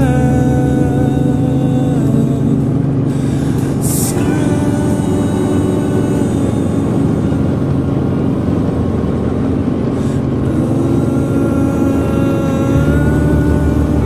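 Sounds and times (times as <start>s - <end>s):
helicopter rotor and engine: 0.0s - 14.0s
steady whine: 0.0s - 14.0s.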